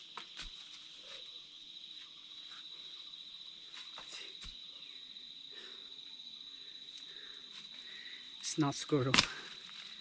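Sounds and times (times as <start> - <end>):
insects droning high-pitched: 0.0 - 10.0.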